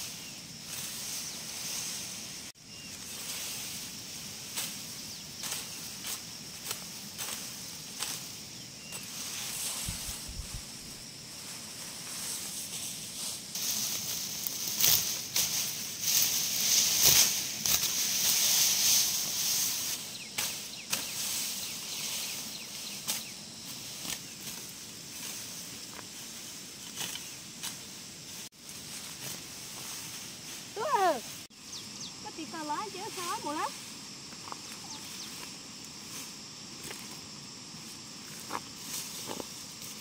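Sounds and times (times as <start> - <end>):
tall grass rustling: 0.0 - 40.0.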